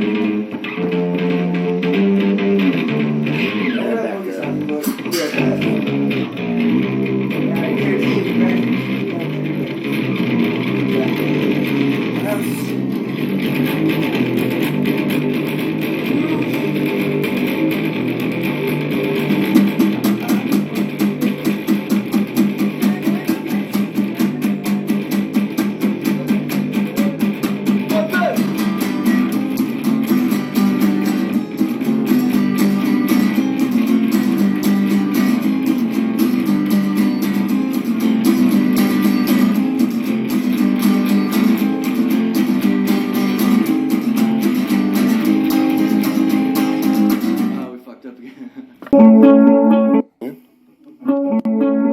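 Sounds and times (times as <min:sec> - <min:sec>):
band playing guitar and bass: 0:00.0 - 0:47.7, 0:48.8 - 0:51.9
fast guitar strumming: 0:00.0 - 0:47.7, 0:48.9 - 0:50.2, 0:51.0 - 0:51.9.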